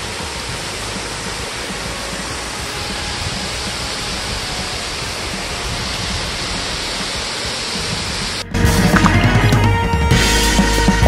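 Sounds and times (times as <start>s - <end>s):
waterfall roaring: 0.0s - 9.6s.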